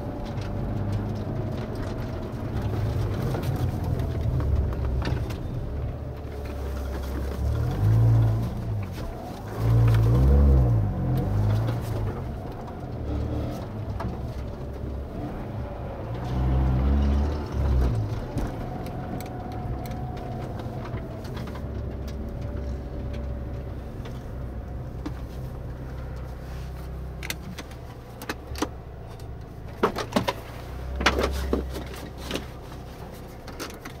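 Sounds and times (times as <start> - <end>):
sharp clicks and knocks inside car: 0.0 - 16.6, 17.2 - 34.0
car engine running at low revs: 0.0 - 34.0.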